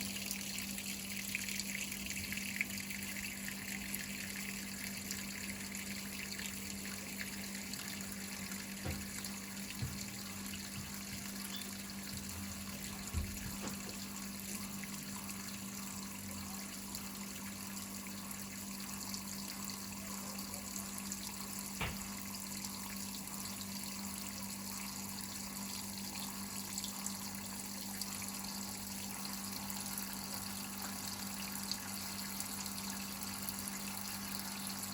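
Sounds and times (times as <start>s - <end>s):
washing machine hum: 0.0s - 34.9s
water running into washing machine: 0.0s - 34.9s.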